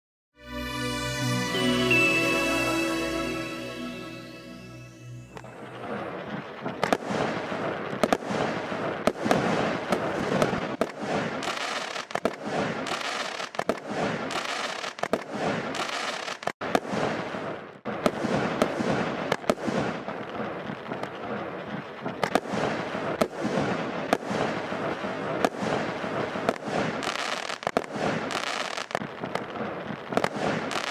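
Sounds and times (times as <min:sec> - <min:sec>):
fireworks crackling: 0:01.0 - 0:30.9
fireworks bangs: 0:05.3 - 0:30.9.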